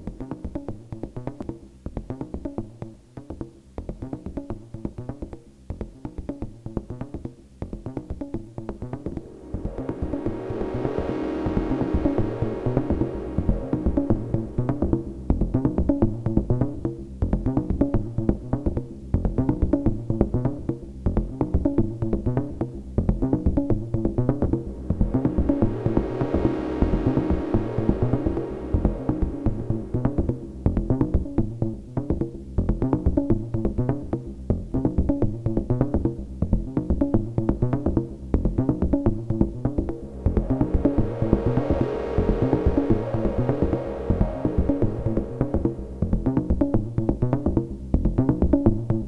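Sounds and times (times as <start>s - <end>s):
low synth bass: 5.7s - 49.0s.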